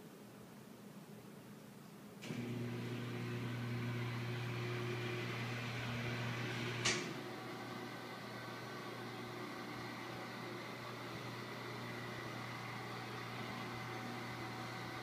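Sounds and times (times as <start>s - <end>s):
tv lift motor humming: 2.2s - 15.0s.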